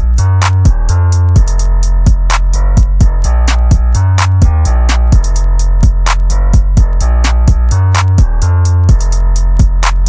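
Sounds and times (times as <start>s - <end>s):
deep sustained bass: 0.0s - 10.0s
drum-machine kicks and snares: 0.0s - 10.0s
slowed hip-hop beat with reverb: 0.0s - 10.0s
steady hi-hats: 0.0s - 10.0s.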